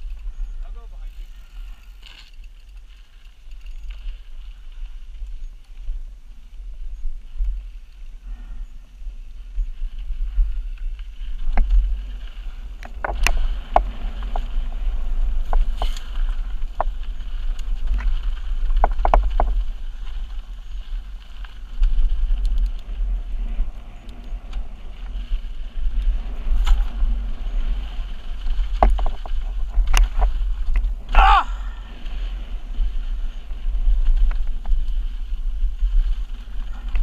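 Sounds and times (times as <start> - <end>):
bike rattling over bumps: 0.0 - 37.0
wind and riding noise on microphone: 0.0 - 37.0.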